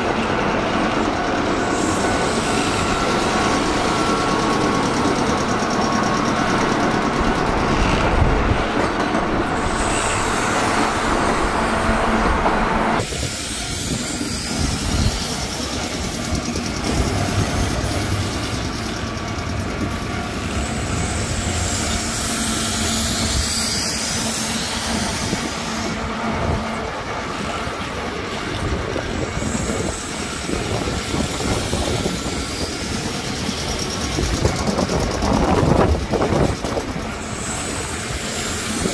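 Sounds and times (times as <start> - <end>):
electric train wheel rumble: 0.0 - 38.9.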